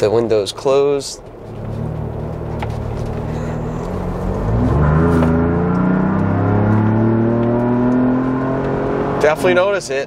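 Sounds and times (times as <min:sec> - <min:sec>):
car engine accelerating hard: 0:01.4 - 0:10.0.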